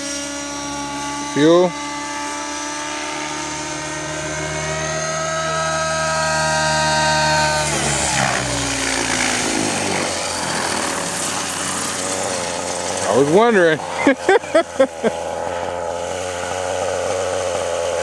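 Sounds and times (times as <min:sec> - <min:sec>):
rc helicopter engine whining: 0:00.0 - 0:18.0
rotor swishing: 0:00.0 - 0:18.0.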